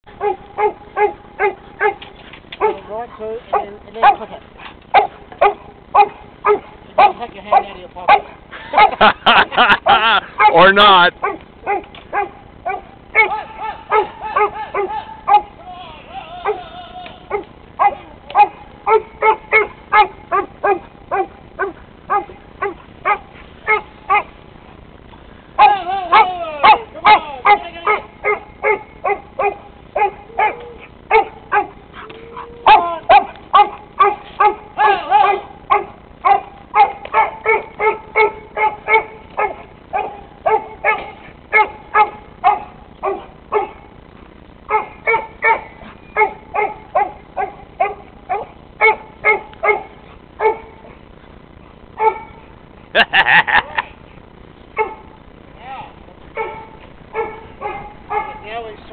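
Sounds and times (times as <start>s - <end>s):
dog barking: 0.1s - 9.1s, 10.4s - 15.6s, 17.3s - 24.4s, 25.6s - 44.0s, 44.7s - 51.0s, 51.9s - 52.6s, 54.8s - 55.2s, 56.4s - 58.7s.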